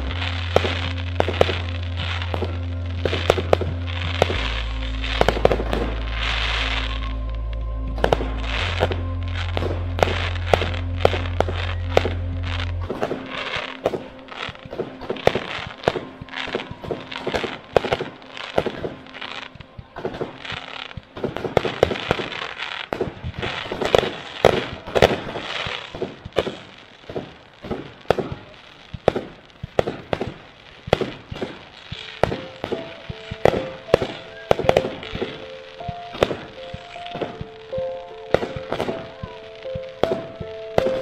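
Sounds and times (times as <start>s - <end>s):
distant fireworks bangs: 0.0s - 41.0s
fireworks crackling: 0.0s - 41.0s
music: 0.0s - 41.0s.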